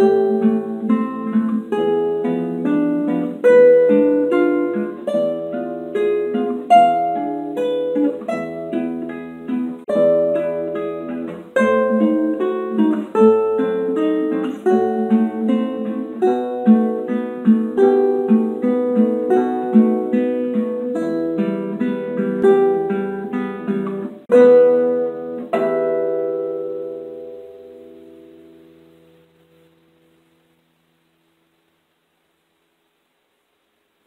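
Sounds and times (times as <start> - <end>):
classical guitar playing: 0.0 - 33.0.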